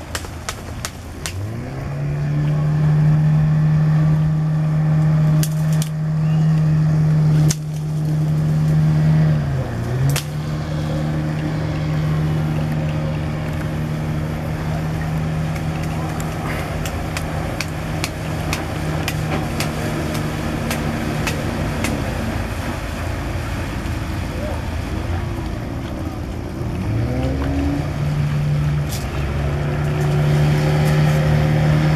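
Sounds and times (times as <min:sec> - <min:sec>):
motorboat engine running: 0:00.0 - 0:31.9.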